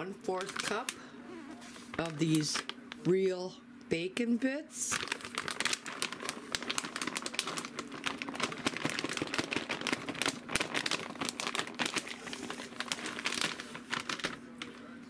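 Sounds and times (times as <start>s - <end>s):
plastic bag crinkling: 0.4s - 1.0s, 1.7s - 3.1s, 4.8s - 14.9s.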